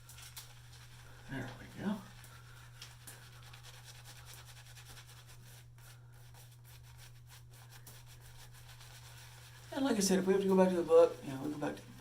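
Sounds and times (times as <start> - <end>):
shaving brush scrubbing lather: 0.0 - 12.0
steady low hum: 0.0 - 12.0.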